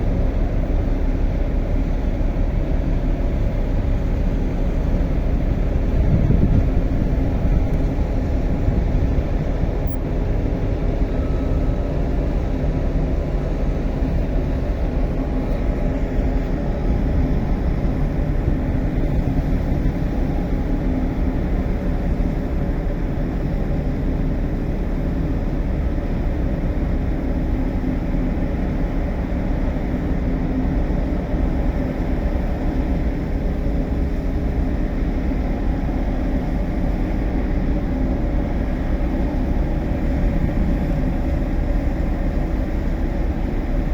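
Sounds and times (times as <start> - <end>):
marine engine drone: 0.0 - 43.9
steady humming tone: 0.0 - 43.9.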